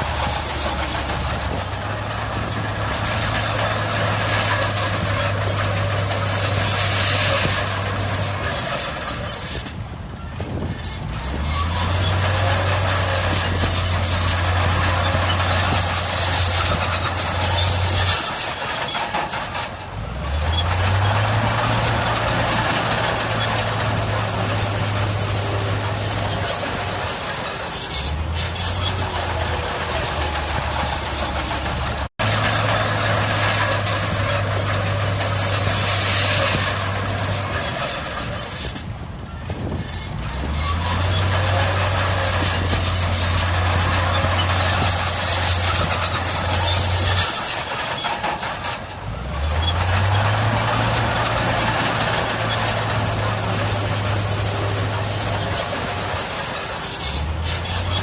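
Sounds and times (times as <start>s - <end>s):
diesel machinery engine revving: 0.0s - 58.0s.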